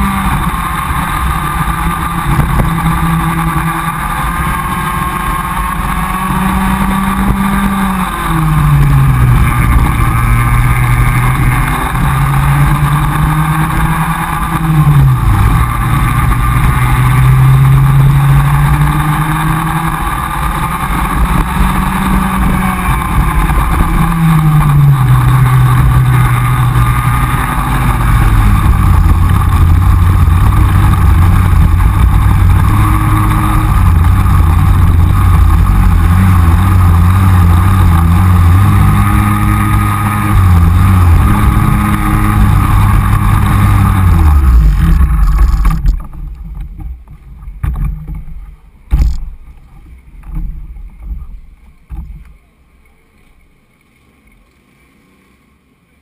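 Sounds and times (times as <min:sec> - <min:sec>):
kart engine revving: 0:00.0 - 0:51.1.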